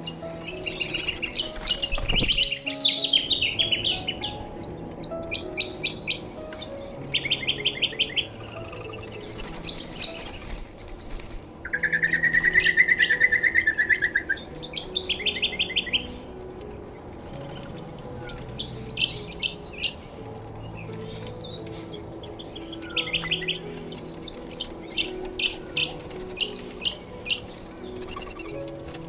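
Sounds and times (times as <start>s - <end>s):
bird trill: 0.0s - 29.0s
birds chirping: 0.0s - 29.0s.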